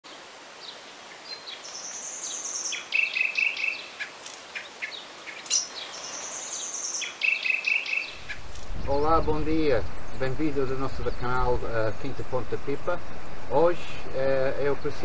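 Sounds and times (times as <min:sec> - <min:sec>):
faint background hiss: 0:00.1 - 0:15.0
songbird singing: 0:00.1 - 0:15.0.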